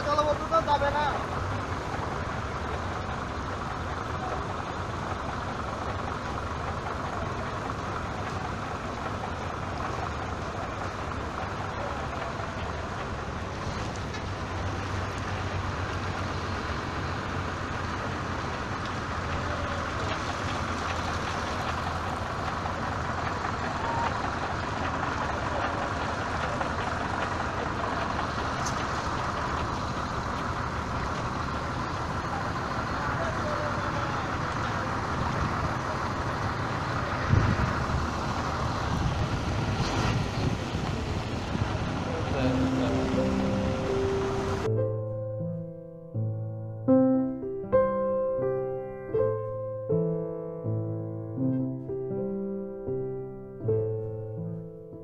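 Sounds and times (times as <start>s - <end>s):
heavy rain on floodwater: 0.0s - 44.7s
low engine hum: 0.0s - 55.0s.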